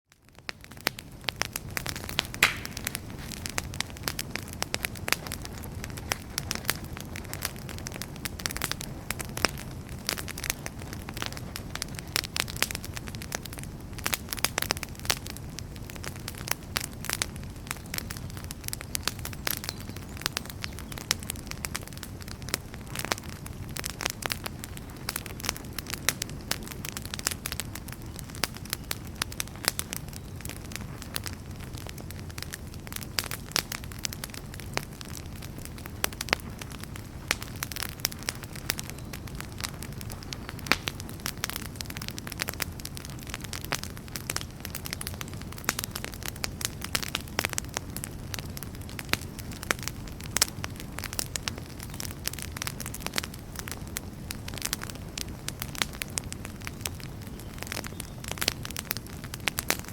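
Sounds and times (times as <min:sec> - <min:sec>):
campfire crackling and popping: 0:00.1 - 0:59.9
low flame rush: 0:00.6 - 0:59.9.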